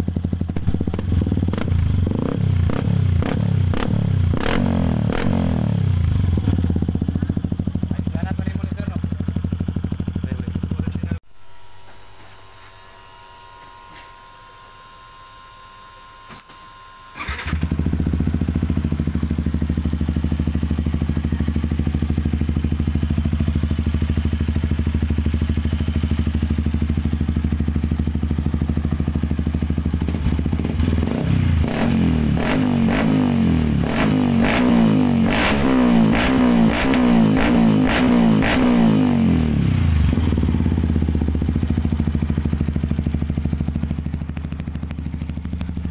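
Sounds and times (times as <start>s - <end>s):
motorcycle engine idling and revving: 0.0s - 11.2s, 17.1s - 45.9s.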